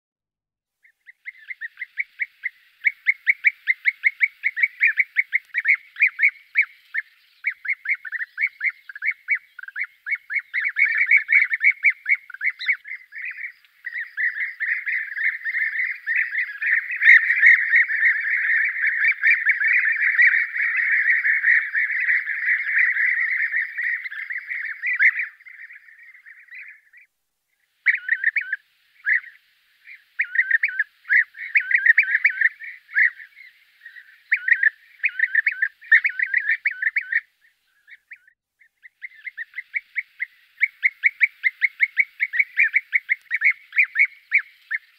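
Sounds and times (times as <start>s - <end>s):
bee-eaters calling: 0.8s - 27.1s, 27.8s - 44.9s.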